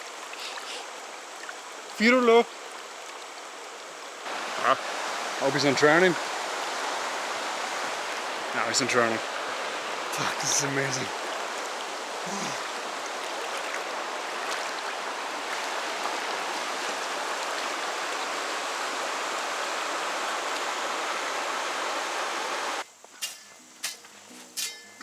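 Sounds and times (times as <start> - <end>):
stream rushing: 0.0 - 22.8.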